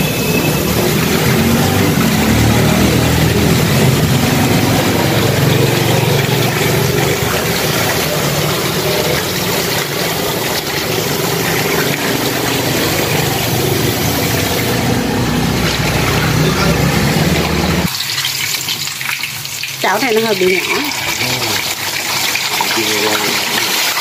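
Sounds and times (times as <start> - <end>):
tap water running into basin: 0.0 - 24.0
hands rinsing leafy greens: 0.4 - 24.0.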